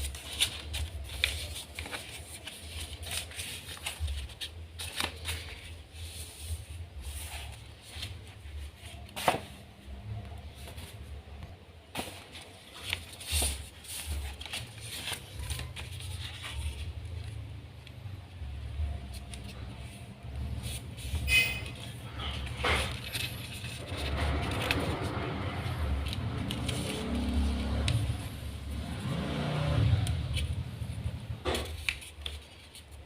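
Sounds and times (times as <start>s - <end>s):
paper rustling and crackling: 0.0s - 17.9s, 18.6s - 33.0s.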